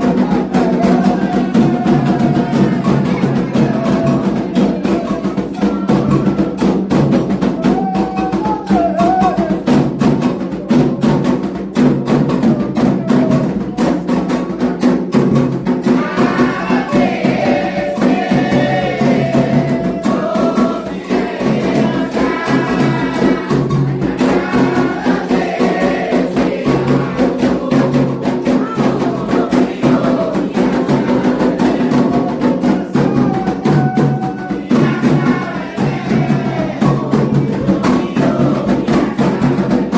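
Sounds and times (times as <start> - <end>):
group singing a chant: 0.0 - 39.9
hand drums playing fast rhythm: 0.0 - 39.9.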